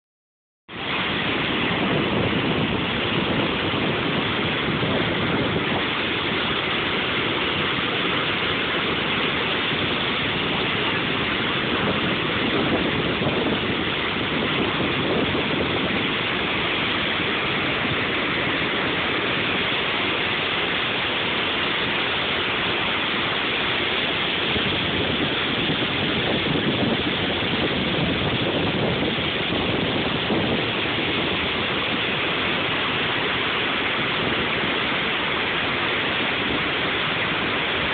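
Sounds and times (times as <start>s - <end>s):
roar of churning water: 0.7s - 37.9s.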